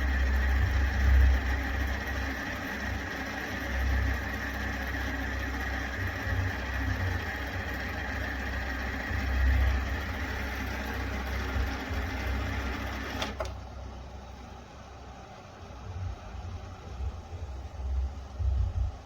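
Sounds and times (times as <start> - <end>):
machine humming and rumbling: 0.0 - 19.0.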